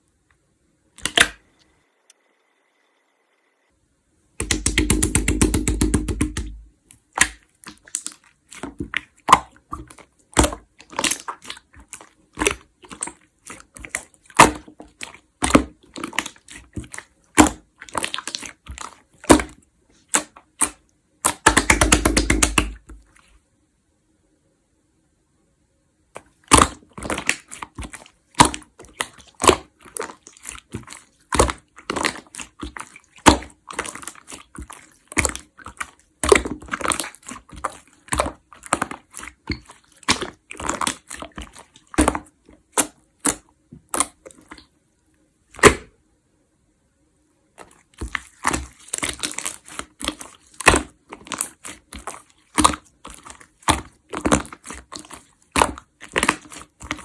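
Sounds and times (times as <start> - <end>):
hands squishing slime: 1.0 - 1.5, 4.4 - 23.3, 26.2 - 44.7, 45.5 - 45.9, 47.6 - 57.0.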